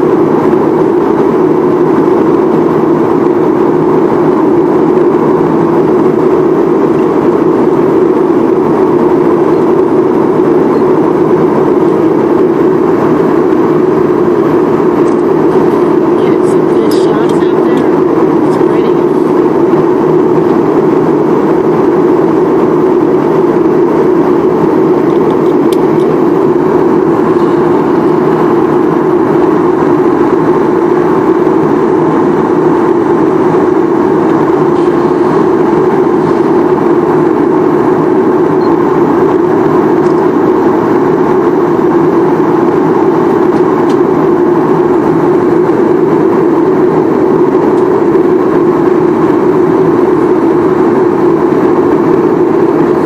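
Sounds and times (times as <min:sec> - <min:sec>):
jet engines in cabin: 0:00.0 - 0:53.0.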